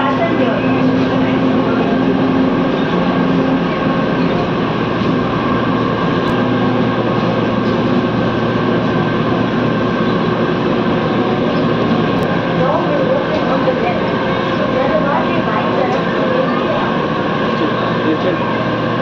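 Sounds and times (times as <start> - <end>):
train rolling hum: 0.0 - 19.0.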